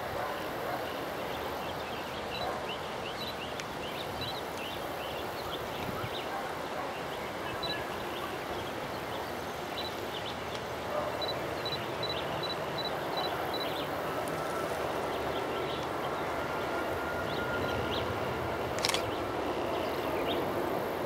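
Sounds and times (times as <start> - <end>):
distant jet engines rushing: 0.0 - 21.0.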